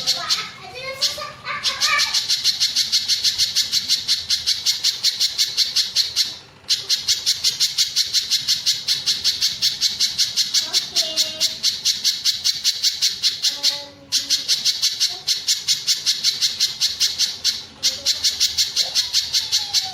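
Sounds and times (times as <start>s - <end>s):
bird calling sharp repeated notes: 0.0s - 19.9s.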